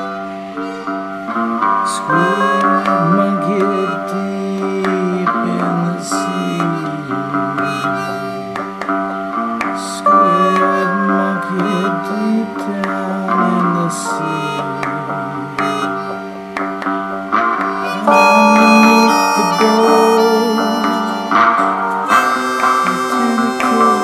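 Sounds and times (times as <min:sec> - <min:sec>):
twangy plucked guitar: 0:00.0 - 0:24.0.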